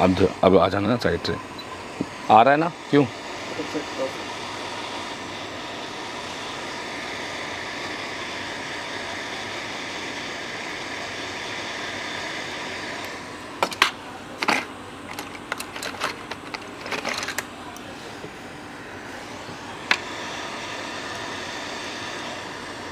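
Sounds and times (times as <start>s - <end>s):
hot-air blower hissing: 0.0s - 22.9s.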